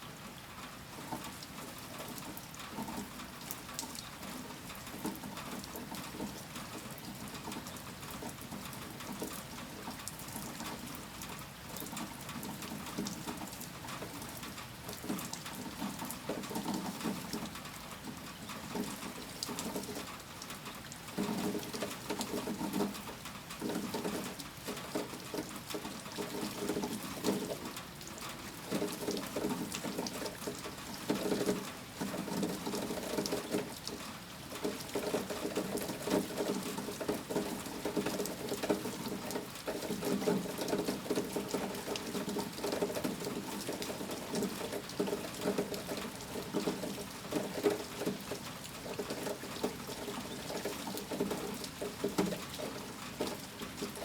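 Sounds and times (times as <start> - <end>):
rain falling: 0.1 - 54.0.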